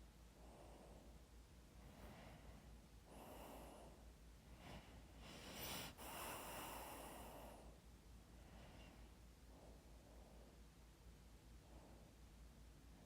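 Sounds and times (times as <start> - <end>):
soft slow breathing: 0.2 - 13.0.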